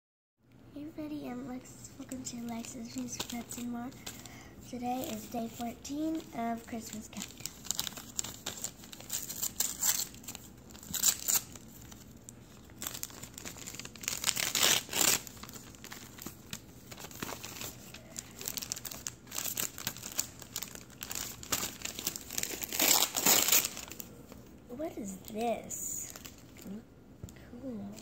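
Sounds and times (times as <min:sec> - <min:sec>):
wrapping paper crinkling and tearing: 0:02.0 - 0:24.5, 0:26.0 - 0:26.8.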